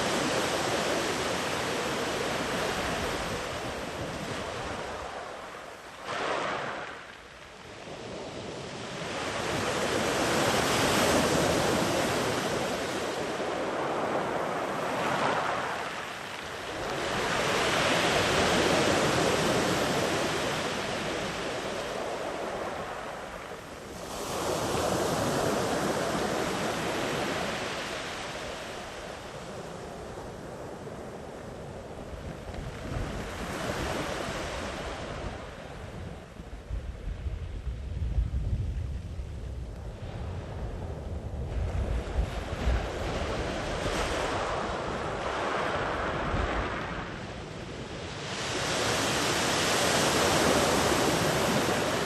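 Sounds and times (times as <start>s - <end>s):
ocean waves breaking on beach: 0.0s - 37.6s, 39.9s - 52.0s.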